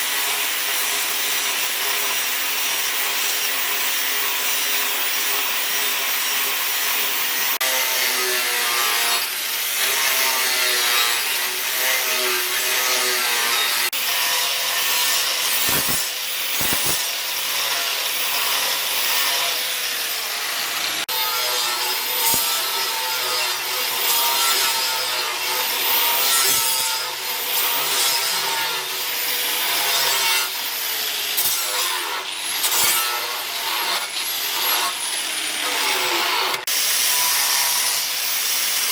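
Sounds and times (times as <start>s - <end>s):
tool rasping wood: 0.6s - 38.9s.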